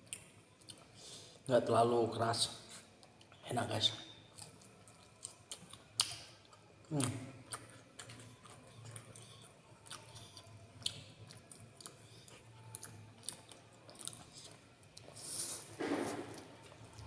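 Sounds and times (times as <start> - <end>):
person chewing food: 0.0 - 1.0, 2.7 - 3.4, 4.3 - 17.0.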